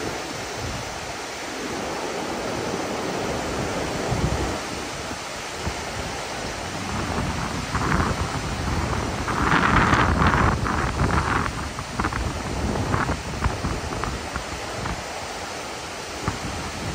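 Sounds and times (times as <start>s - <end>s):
sea rushing: 0.0s - 16.9s
wind buffeting microphone: 0.0s - 16.9s.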